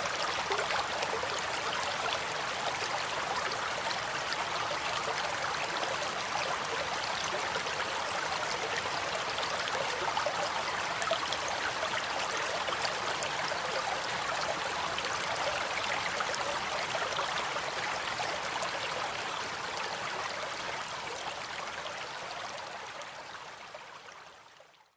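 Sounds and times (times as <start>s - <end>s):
stream water flowing: 0.0s - 24.8s.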